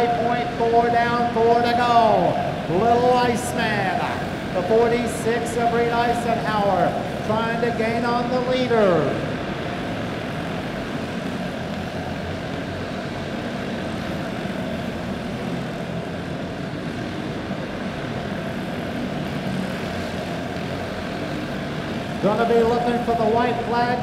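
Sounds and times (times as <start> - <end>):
kart engines droning: 0.0 - 24.0.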